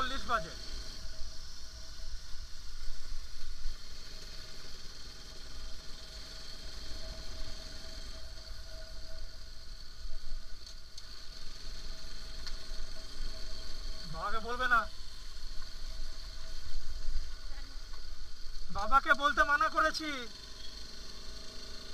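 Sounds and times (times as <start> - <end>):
high whine: 0.0 - 21.9
motorcycle engine running: 0.0 - 21.9.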